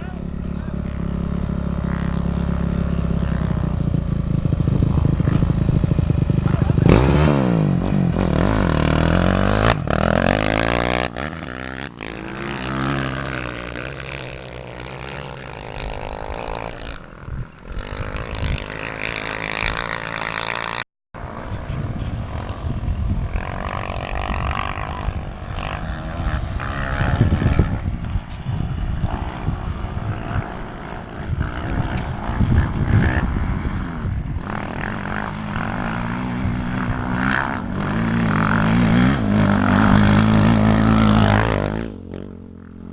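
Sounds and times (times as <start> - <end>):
motorcycle engine running hard: 0.0 - 42.9
rough terrain noise: 0.0 - 42.9
rushing wind: 0.0 - 42.9.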